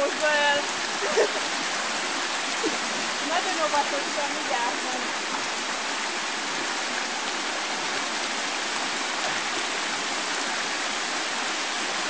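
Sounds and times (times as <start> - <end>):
stream rushing over stones: 0.0 - 12.0.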